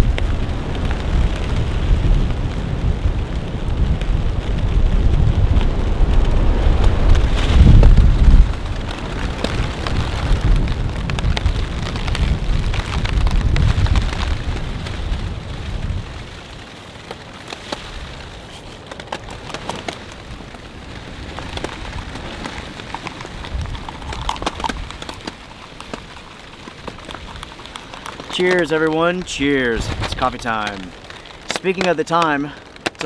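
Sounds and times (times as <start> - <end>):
strong wind gusts: 0.0 - 32.8
rain pattering: 0.0 - 33.0.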